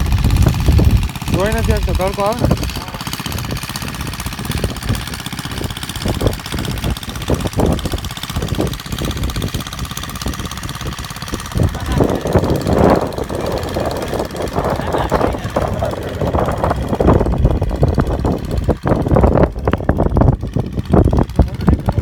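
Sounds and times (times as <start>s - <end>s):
small tractor engine pulsing: 0.0s - 22.0s.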